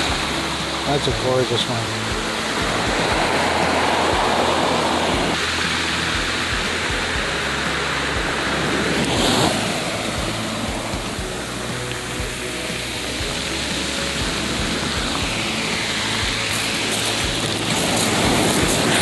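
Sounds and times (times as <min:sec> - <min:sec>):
surf washing onto pebble beach: 0:00.0 - 0:19.0.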